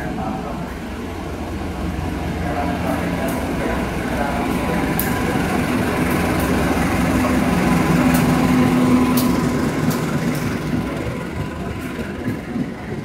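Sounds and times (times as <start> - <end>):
diesel locomotive engine hum: 0.0 - 13.0
train wheels clacking on rails: 1.8 - 13.0.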